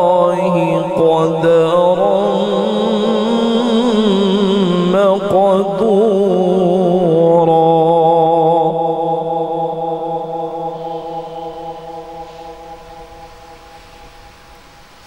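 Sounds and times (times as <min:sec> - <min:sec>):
man reciting melodically: 0:00.0 - 0:13.2.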